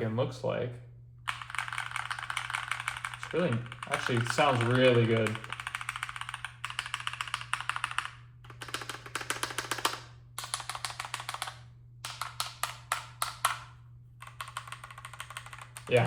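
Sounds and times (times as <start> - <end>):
mechanical keyboard typing: 1.3 - 16.0.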